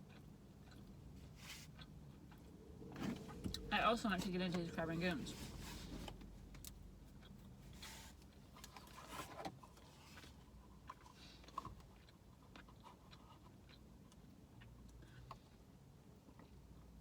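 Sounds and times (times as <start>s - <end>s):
chewing with small crunches: 0.0s - 17.0s.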